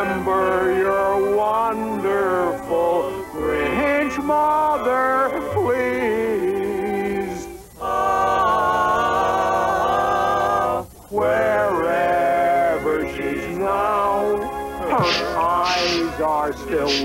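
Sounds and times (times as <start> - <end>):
voices singing long notes: 0.0 - 17.0.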